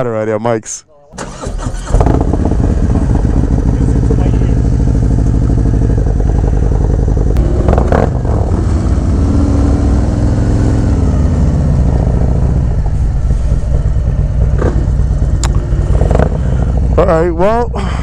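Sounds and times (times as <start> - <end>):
motorcycle engine running: 1.2 - 18.0.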